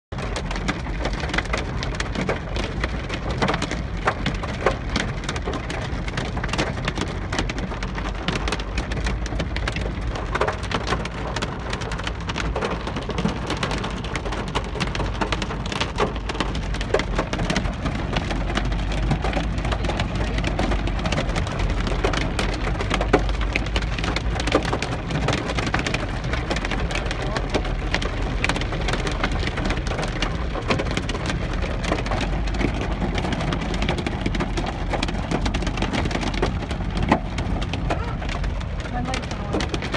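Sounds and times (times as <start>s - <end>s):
hail and rain on car roof: 0.1s - 39.9s
moving car rumble: 0.1s - 39.9s.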